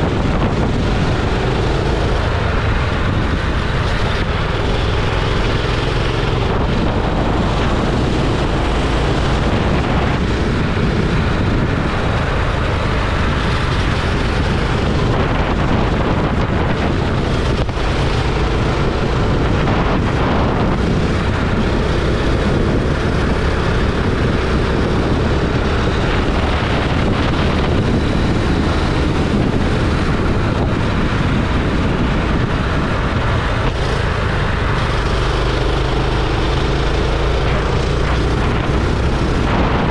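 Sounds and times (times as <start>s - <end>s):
kart engine running: 0.0s - 39.9s
wind buffeting microphone: 0.0s - 39.9s.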